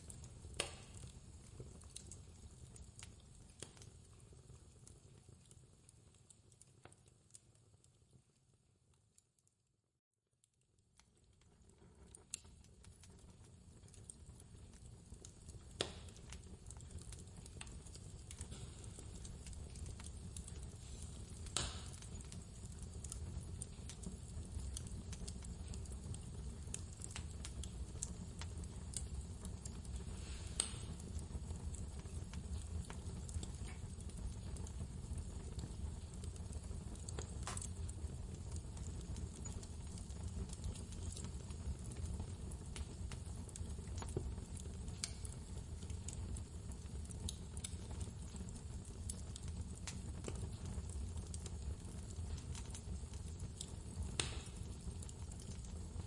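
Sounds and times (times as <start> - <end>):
wood fire crackling and popping: 0.0 - 9.5, 10.4 - 56.0.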